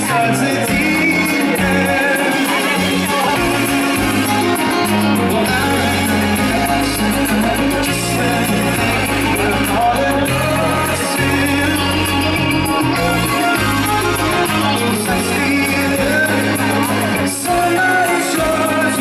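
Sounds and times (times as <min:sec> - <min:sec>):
bass notes: 0:00.0 - 0:19.0
keyboard: 0:00.0 - 0:19.0
live pop-rock band: 0:00.0 - 0:19.0
man singing: 0:00.0 - 0:19.0.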